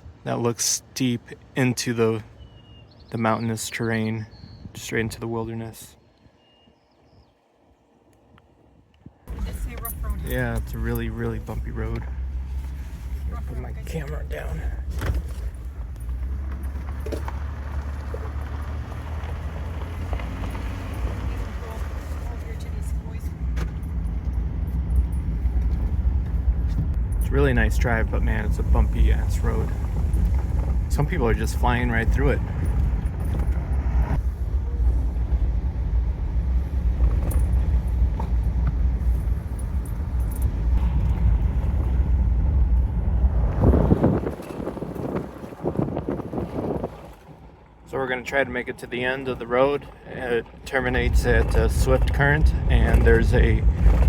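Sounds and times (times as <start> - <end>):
road and engine rumble in truck cab: 0.0 - 54.0.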